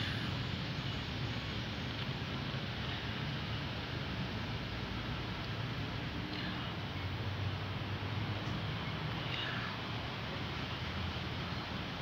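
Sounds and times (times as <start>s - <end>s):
background rumble and hiss: 0.0s - 12.0s.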